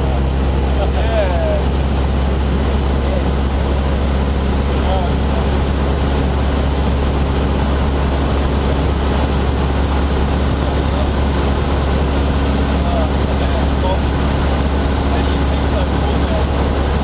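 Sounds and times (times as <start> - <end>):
propeller plane engine running: 0.0 - 17.0.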